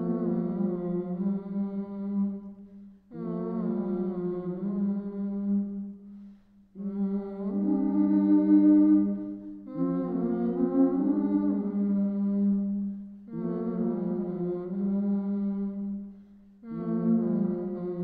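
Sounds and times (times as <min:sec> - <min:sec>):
slow chant-like background music: 0:00.0 - 0:18.0.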